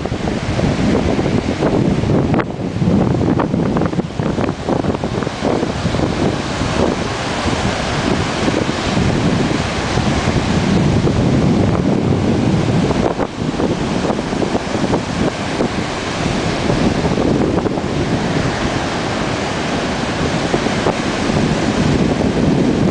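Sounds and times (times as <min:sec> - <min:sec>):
ocean surf breaking: 0:00.0 - 0:22.9
wind rumbling on microphone: 0:00.0 - 0:22.9.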